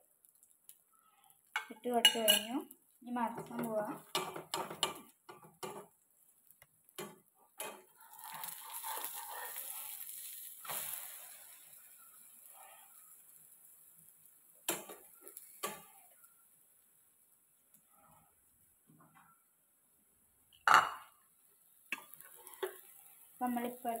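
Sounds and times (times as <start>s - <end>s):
egg frying sizzle: 0.0s - 19.1s, 20.6s - 24.0s.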